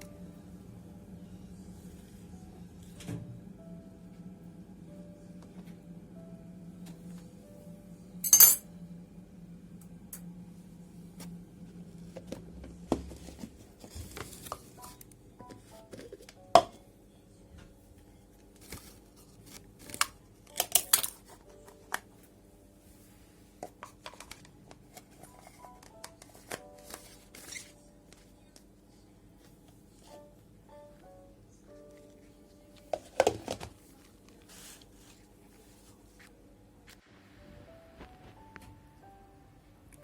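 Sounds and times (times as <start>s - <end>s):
soft background music: 0.0s - 40.0s.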